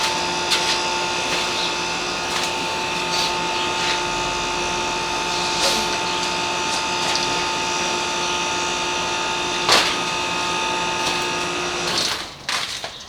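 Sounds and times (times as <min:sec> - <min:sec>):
small electric motor whining: 0:00.0 - 0:12.8.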